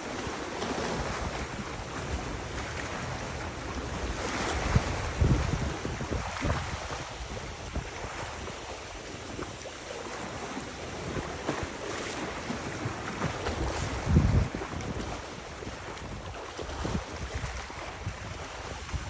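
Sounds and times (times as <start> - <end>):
river water flowing: 0.0 - 19.0
wind buffeting microphone: 0.0 - 19.0.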